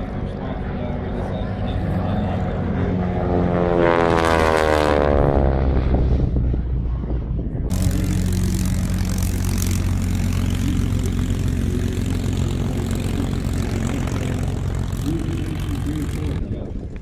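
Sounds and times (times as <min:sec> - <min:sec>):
propeller airplane engine drone: 0:00.0 - 0:17.0.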